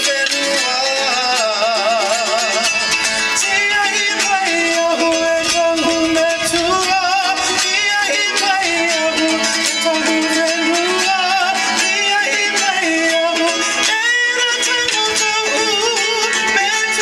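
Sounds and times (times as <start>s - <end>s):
person singing: 0.0s - 17.0s
strummed string instruments: 0.0s - 17.0s.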